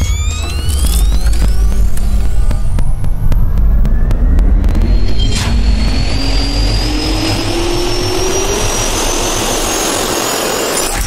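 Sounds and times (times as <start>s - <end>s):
jet engine turbine whine: 0.0s - 11.0s.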